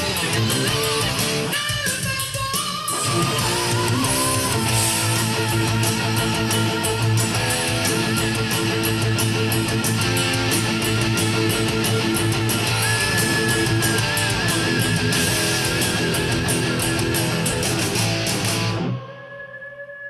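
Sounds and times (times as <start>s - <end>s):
distorted electric guitar lead: 0.0s - 19.6s.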